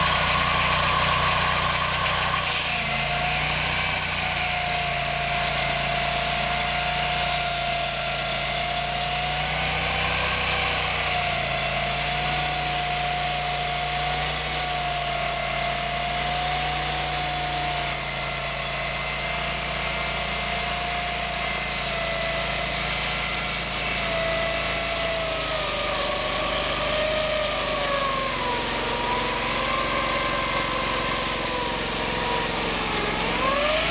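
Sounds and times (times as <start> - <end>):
sawmill engine whining: 0.0 - 33.9.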